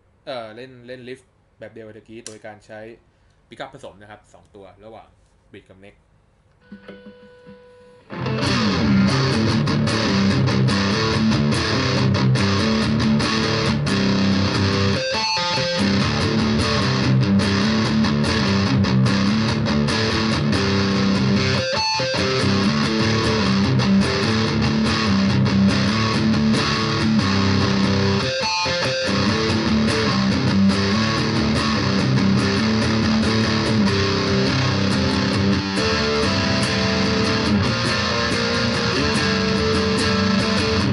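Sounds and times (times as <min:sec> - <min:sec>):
distorted electric guitar riff: 0:06.6 - 0:40.9.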